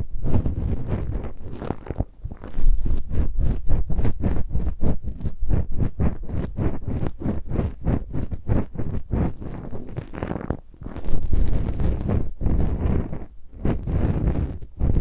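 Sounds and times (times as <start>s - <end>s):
scratching on microphone: 0.0s - 15.0s.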